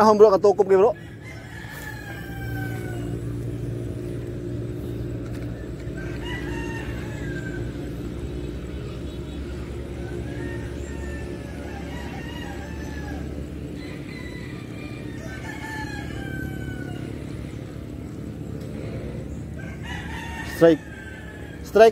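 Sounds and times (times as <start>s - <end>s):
faint roosters crowing: 0.0s - 21.9s
steady low hum: 0.0s - 21.9s.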